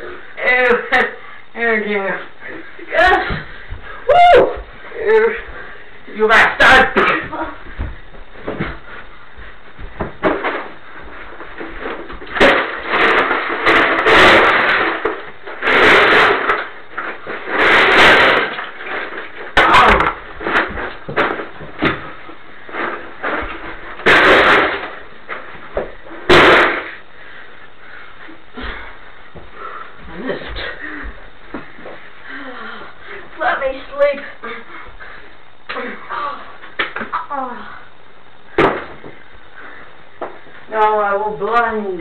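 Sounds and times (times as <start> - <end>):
people wrestling bangs and thumps: 2.8 - 37.3, 38.0 - 40.6.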